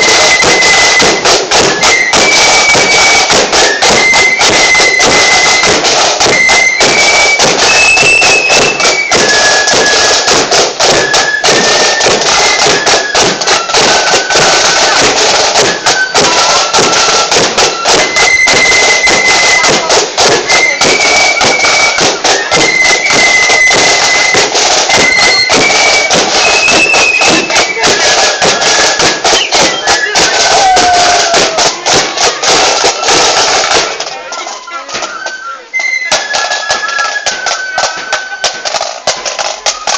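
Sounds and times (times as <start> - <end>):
flute melody: 0.0 - 39.9
heavy steady drumming: 0.0 - 39.9.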